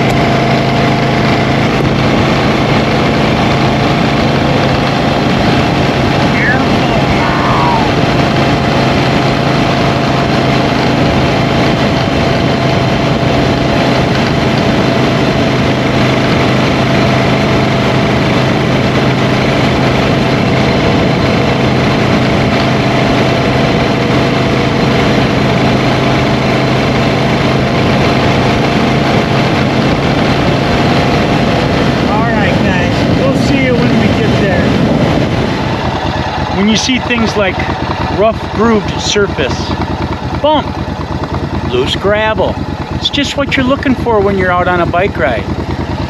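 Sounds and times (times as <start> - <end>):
motorcycle engine cruising: 0.0 - 46.0
wind and road noise: 0.0 - 46.0.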